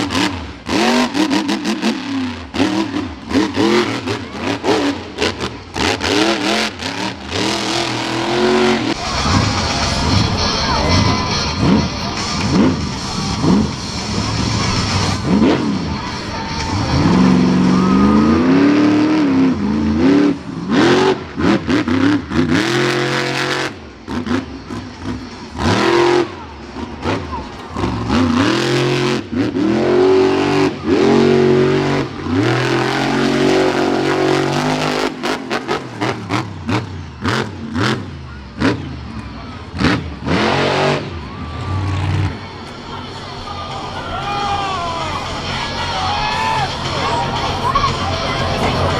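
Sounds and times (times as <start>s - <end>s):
monster truck engine revving: 0.0s - 48.9s.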